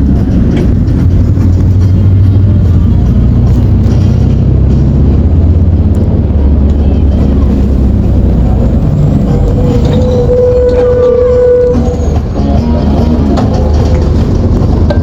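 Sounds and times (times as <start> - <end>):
diesel bus engine rumbling: 0.0 - 15.0.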